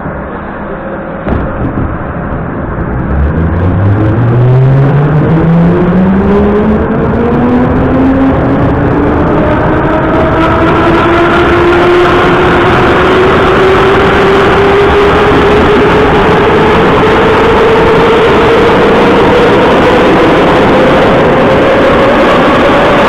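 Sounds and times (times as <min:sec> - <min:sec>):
rush and rumble of running train: 0:00.0 - 0:23.0.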